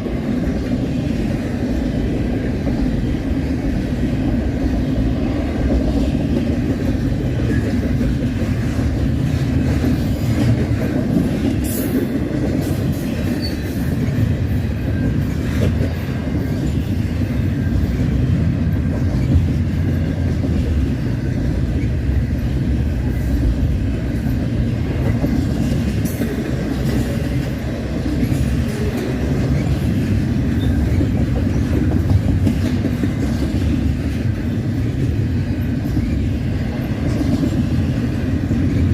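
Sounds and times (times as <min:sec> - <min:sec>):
steel wheels rumbling on rail: 0:00.0 - 0:38.9
train clacks: 0:00.0 - 0:38.9.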